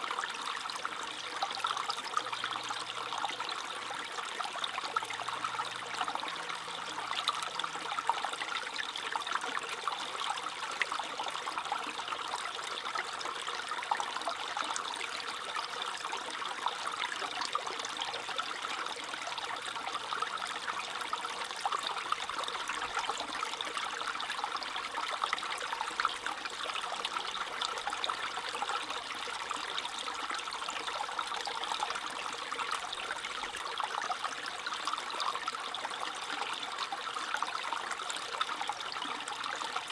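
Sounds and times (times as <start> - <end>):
brook water trickling: 0.0 - 39.9.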